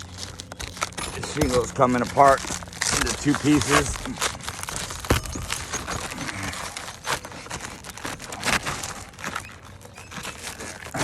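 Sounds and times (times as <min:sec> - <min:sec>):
roofing shingle crackling and tearing: 0:00.0 - 0:11.0.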